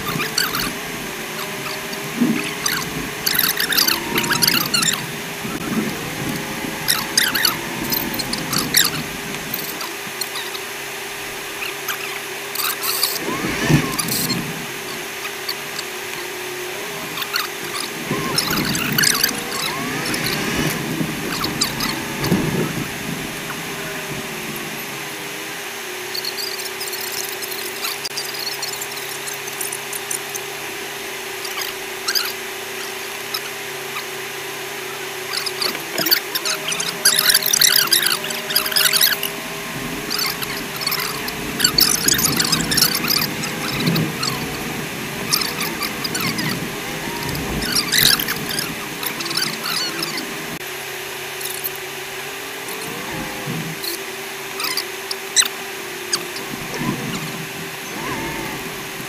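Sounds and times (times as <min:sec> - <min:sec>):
interior squeaks and creaks: 0:00.0 - 0:25.2, 0:25.9 - 0:30.6, 0:31.4 - 0:50.6, 0:52.6 - 0:59.0
vehicle cabin hum: 0:00.0 - 0:59.0.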